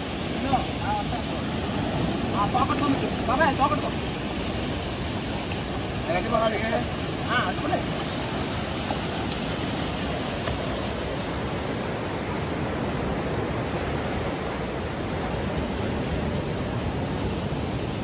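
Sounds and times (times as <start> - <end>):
sea surf breaking: 0.0 - 18.0.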